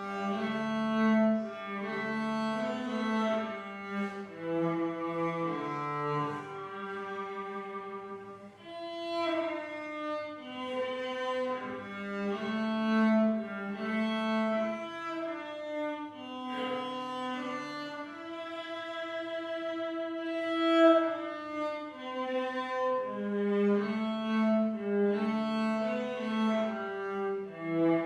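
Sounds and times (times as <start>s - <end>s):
cello playing slow hymn: 0.0s - 28.0s.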